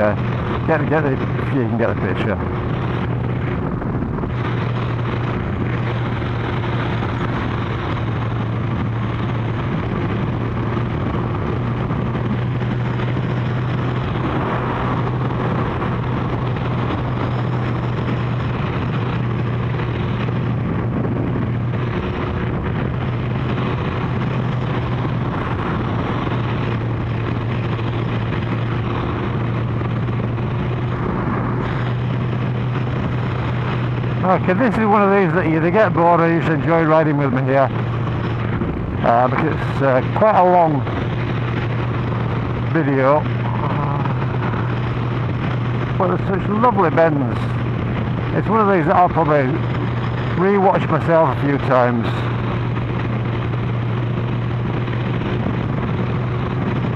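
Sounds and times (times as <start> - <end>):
motorcycle engine cruising: 0.0 - 56.9
wind noise rushing: 0.0 - 56.9.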